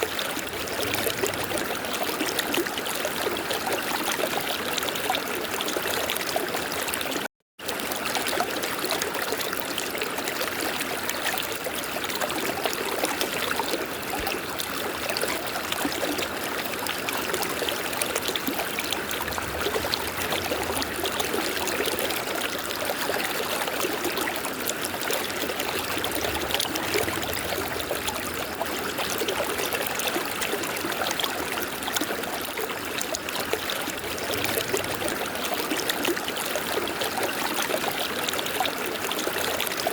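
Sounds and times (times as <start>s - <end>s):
river water flowing: 0.0s - 7.1s, 7.7s - 39.9s.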